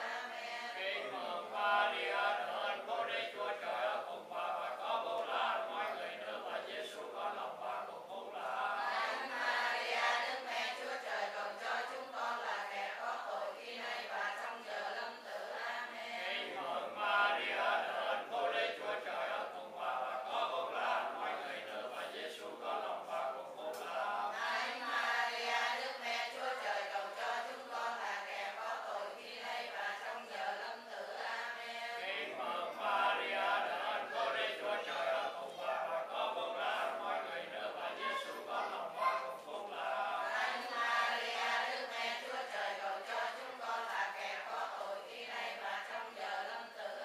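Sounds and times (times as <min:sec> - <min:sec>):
group chanting prayers: 0:00.0 - 0:47.0.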